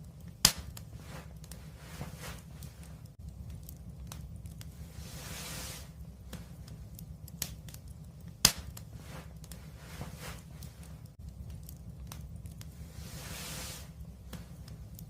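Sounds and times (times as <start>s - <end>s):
fire hissing: 0.0s - 15.0s
wood fire crackling: 0.0s - 15.0s.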